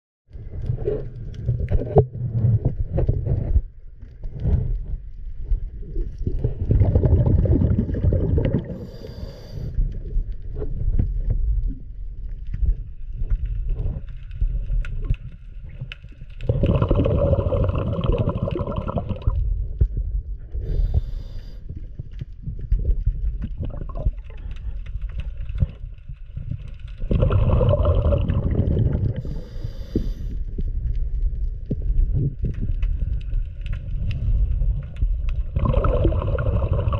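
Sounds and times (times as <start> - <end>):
underwater gurgling and bubbling: 0.4 - 36.9.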